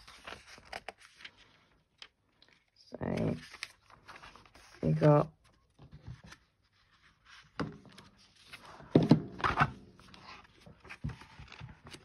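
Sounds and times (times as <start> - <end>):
paper pages turning: 0.0 - 8.8, 9.5 - 12.0.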